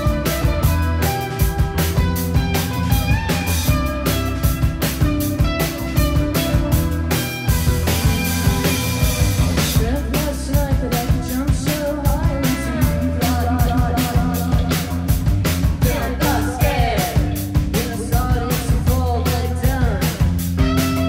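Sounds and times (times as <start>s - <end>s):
bass line: 0.0s - 21.0s
drum beat: 0.0s - 21.0s
electric guitar: 0.0s - 21.0s.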